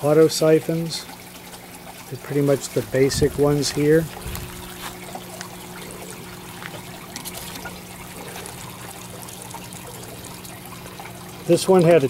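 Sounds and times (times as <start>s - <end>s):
water trickling over gravel: 0.0s - 12.0s.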